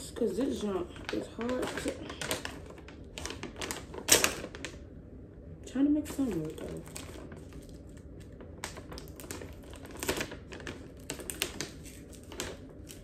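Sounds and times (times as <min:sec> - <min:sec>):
plastic pouch crinkling: 0:00.4 - 0:04.9, 0:06.1 - 0:13.0.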